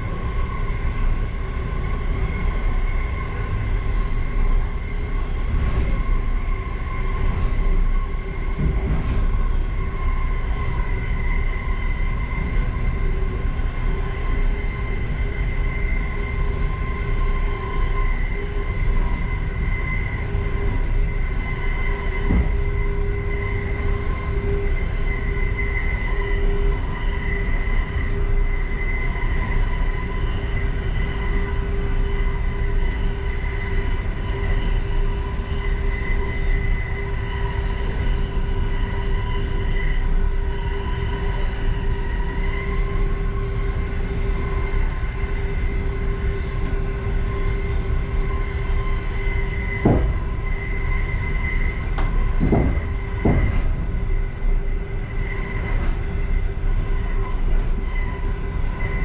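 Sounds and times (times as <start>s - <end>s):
constant whining hum: 0.0s - 59.0s
railway car rumbling: 0.0s - 59.0s.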